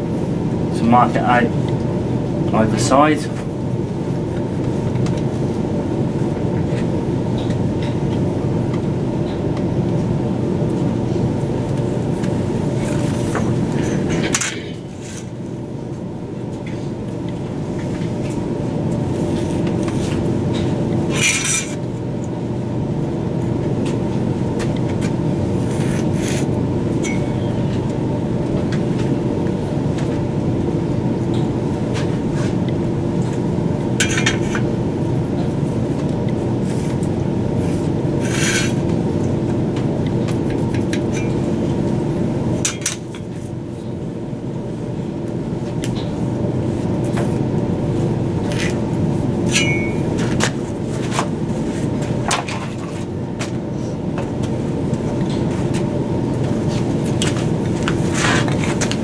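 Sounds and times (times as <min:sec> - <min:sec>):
workshop machinery drone: 0:00.0 - 0:59.0.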